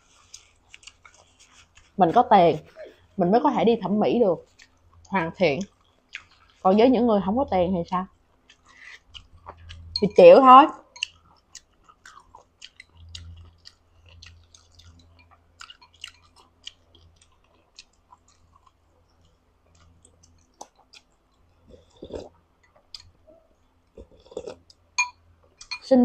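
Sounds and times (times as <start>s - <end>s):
chewing with wet mouth clicks: 0.1s - 2.0s, 4.4s - 6.7s, 7.9s - 10.2s, 10.8s - 25.9s.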